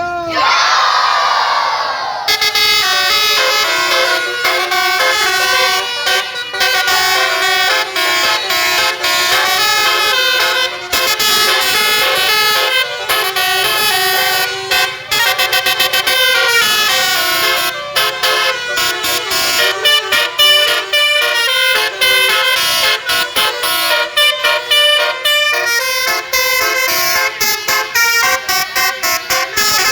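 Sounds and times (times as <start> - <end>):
multi-tone musical horn: 2.3 - 29.9.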